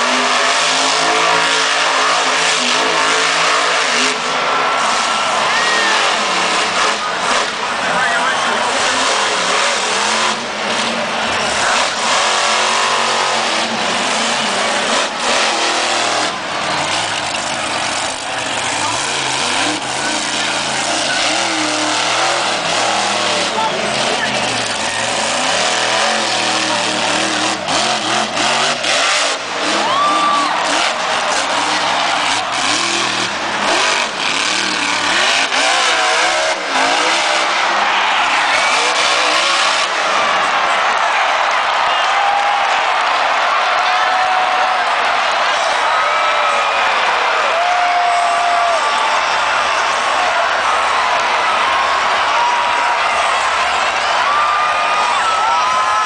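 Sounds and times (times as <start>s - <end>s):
truck engine revving hard: 0.0s - 54.4s.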